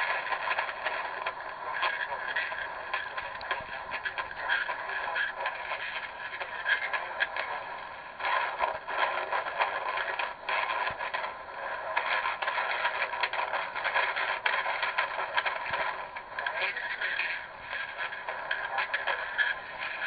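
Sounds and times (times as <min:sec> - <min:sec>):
faint radio station audio: 0:00.0 - 0:20.0
radio static hiss and crackling: 0:00.0 - 0:20.0.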